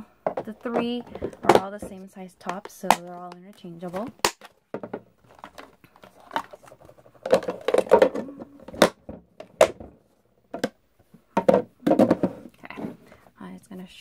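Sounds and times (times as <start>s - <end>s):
plastic containers clattering: 0.0s - 13.2s.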